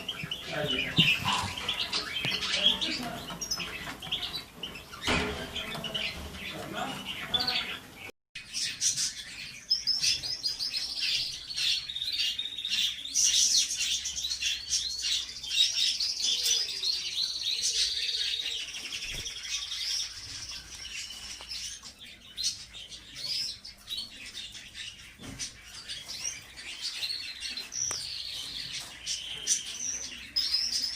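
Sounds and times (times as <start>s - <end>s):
canaries trilling and chirping: 0.0s - 30.9s.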